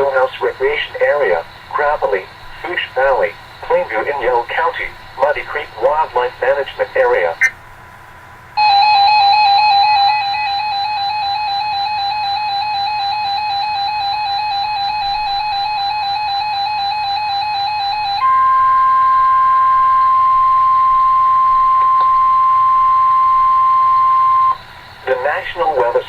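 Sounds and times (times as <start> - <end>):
steady warning alarm tone: 0.0 - 7.6, 8.6 - 26.0
warbling electronic alarm beep: 3.0 - 7.5, 8.6 - 25.3.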